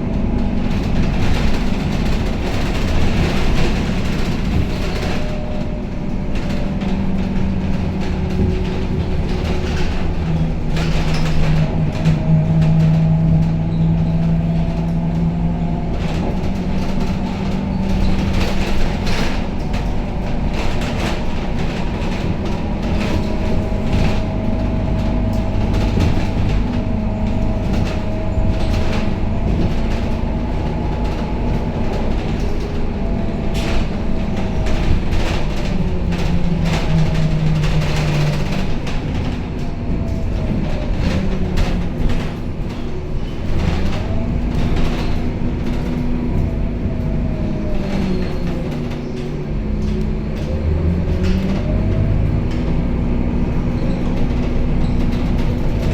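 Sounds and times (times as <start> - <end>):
bus engine drone: 0.0 - 55.9
rattles and clicks: 0.0 - 55.9.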